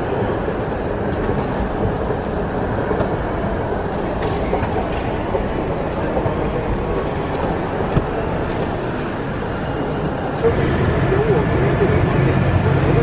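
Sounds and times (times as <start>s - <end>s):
escalator mechanical rumble: 0.0s - 13.0s.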